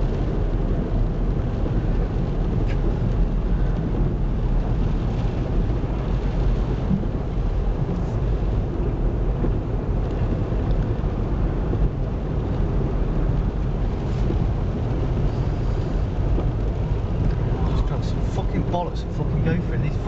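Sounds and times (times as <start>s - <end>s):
car engine rumble inside cabin: 0.0s - 20.0s.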